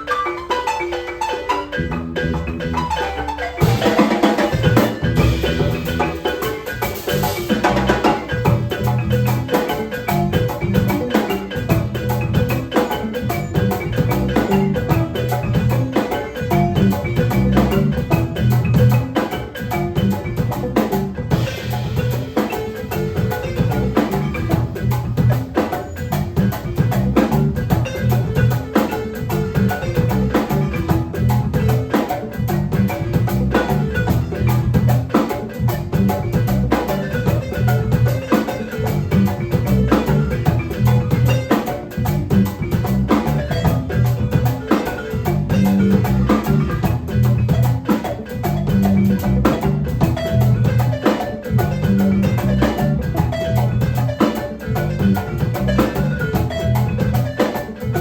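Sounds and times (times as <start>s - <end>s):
drums: 0.0s - 58.0s
marimba: 0.0s - 58.0s.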